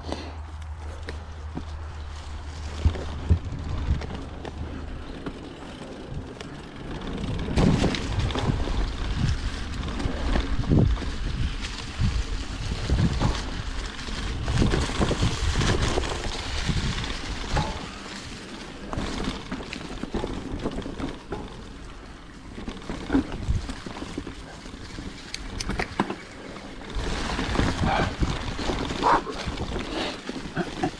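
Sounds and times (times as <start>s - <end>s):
bike rattling: 0.0s - 30.9s
tyres rolling over dry leaves: 0.0s - 30.9s
wind buffeting microphone: 1.4s - 30.9s.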